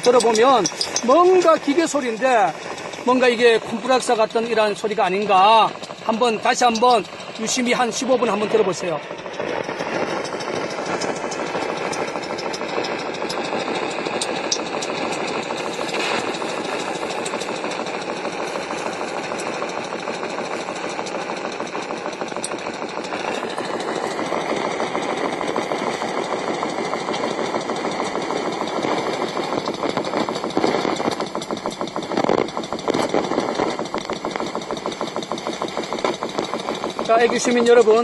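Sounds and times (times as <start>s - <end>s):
fast mechanical pulsing: 0.0s - 38.0s.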